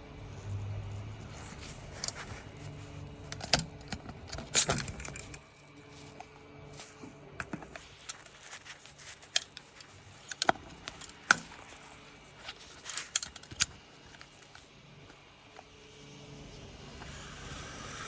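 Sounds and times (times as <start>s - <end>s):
repair tool clicking and scraping: 1.3s - 18.0s.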